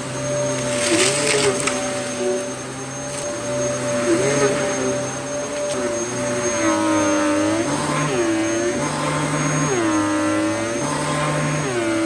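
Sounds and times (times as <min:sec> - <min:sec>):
upright vacuum cleaner running: 0:00.0 - 0:12.0.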